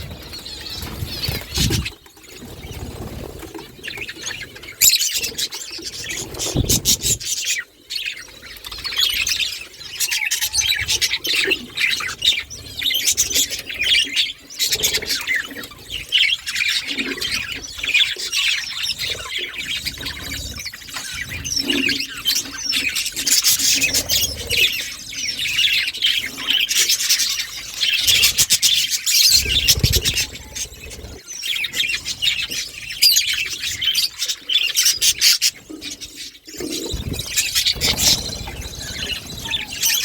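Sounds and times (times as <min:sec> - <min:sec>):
budgerigars chattering: 0:03.8 - 0:40.0.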